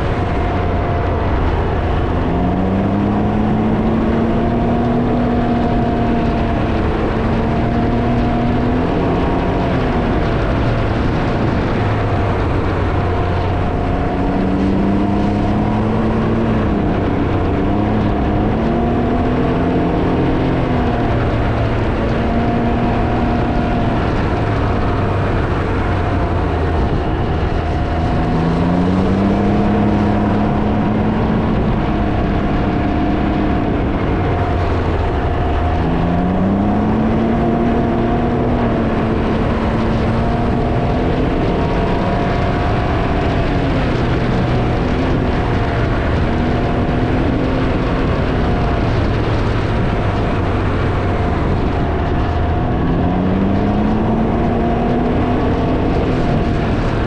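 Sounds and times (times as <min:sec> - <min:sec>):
motor vehicle engine accelerating: 0:00.0 - 0:57.0
wind noise on microphone: 0:00.0 - 0:57.0.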